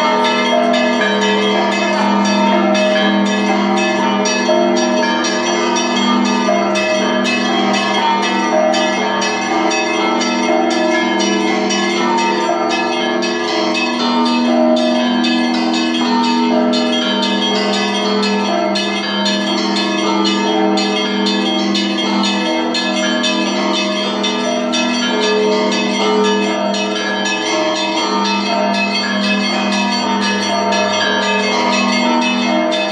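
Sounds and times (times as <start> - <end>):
deep big bells humming: 0.0 - 32.9
small bells striking rapidly: 0.0 - 32.9.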